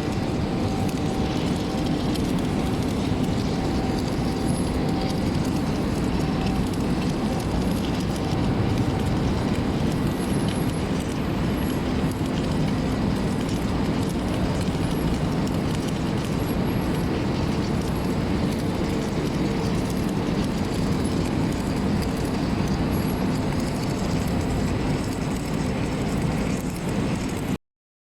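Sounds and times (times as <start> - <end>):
welding machine running: 0.0 - 27.6.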